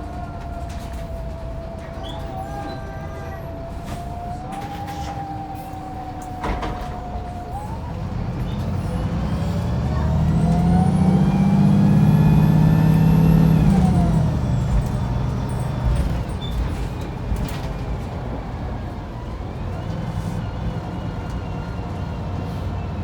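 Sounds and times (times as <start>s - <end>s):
bus engine accelerating: 0.0s - 23.0s.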